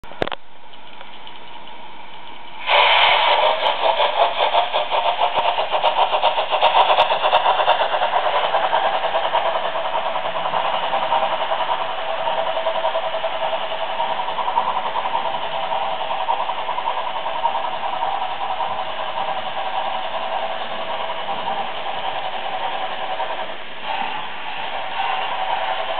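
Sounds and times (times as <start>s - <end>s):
rhythmic steam chuffing: 0.0s - 25.9s.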